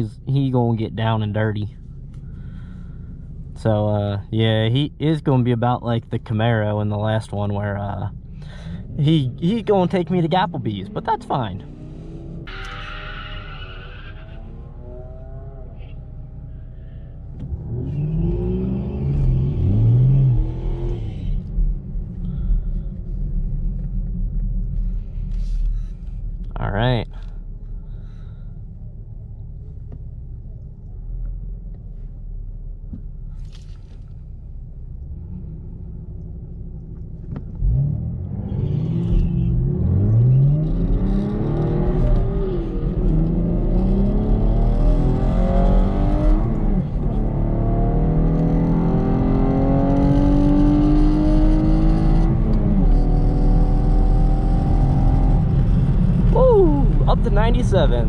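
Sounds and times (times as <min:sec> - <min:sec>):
car engine accelerating: 0:00.0 - 0:58.0
wind and road noise: 0:07.1 - 0:58.0.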